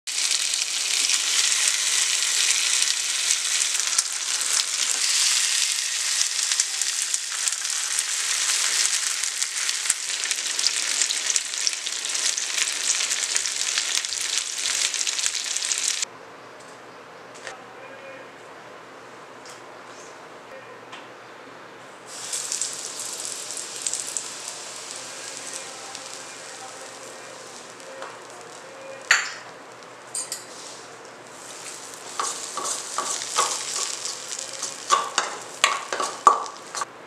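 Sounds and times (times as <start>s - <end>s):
food sizzling on a grill pan: 0.1s - 16.1s, 22.1s - 36.9s.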